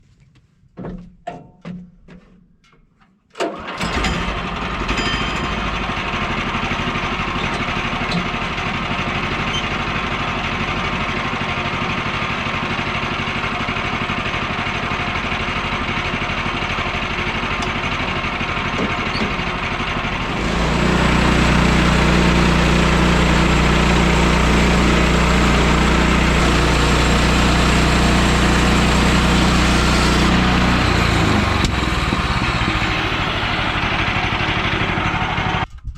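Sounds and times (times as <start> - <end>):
engine cranking and running: 3.4 - 35.8.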